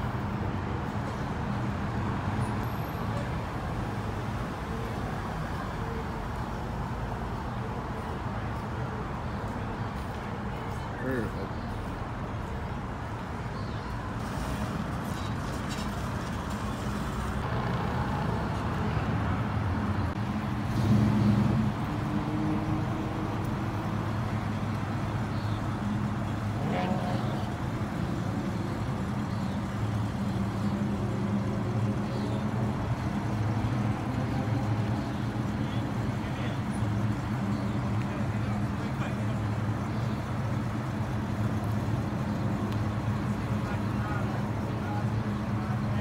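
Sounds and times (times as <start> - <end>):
car engine and exhaust: 0.0 - 46.0.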